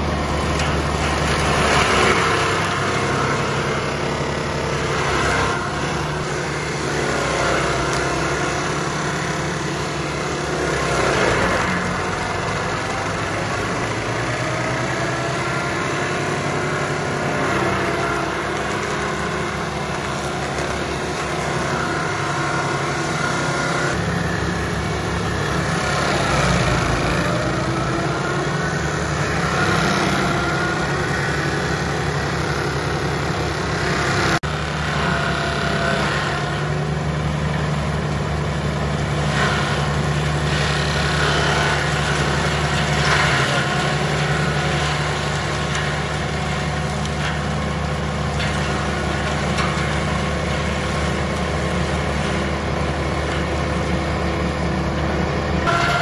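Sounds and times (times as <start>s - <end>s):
stump grinder grinding: 0.0s - 56.0s
tractor engine running: 0.0s - 56.0s.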